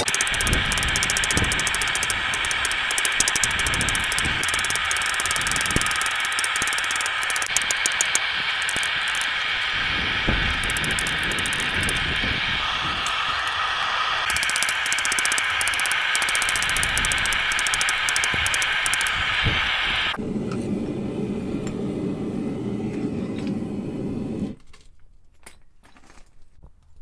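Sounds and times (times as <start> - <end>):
low rushing noise: 0.0 - 22.9
forge burner hissing roar: 0.0 - 24.6.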